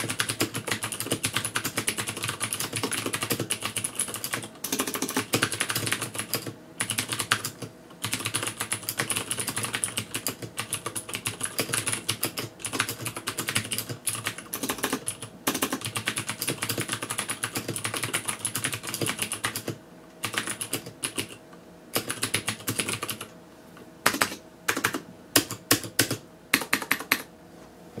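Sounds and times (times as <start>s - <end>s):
clicky mechanical keyboard typing: 0.0s - 21.4s, 22.0s - 23.3s, 24.0s - 27.3s.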